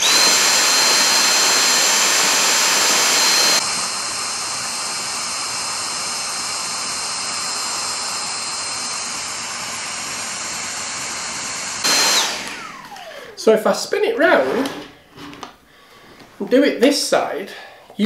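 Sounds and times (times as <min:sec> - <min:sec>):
handheld vacuum cleaner whining: 0:00.0 - 0:13.6, 0:14.2 - 0:15.6.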